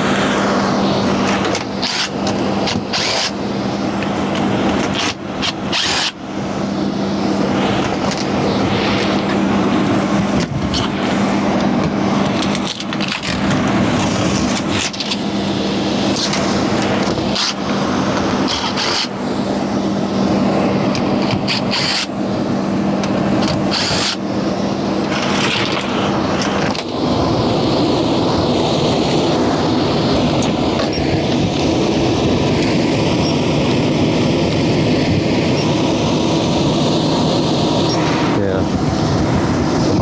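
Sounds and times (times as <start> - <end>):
air handler moving air: 0.0 - 40.0
steady hum: 0.0 - 40.0.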